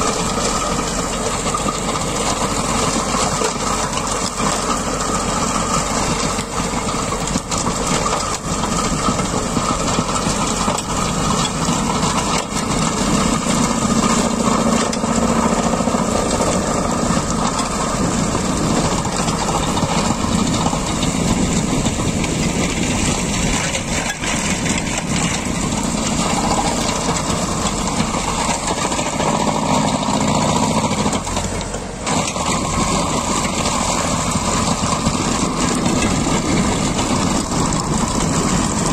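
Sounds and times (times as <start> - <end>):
diesel tractor engine under load: 0.0 - 38.9
stone crusher clattering: 0.0 - 38.9.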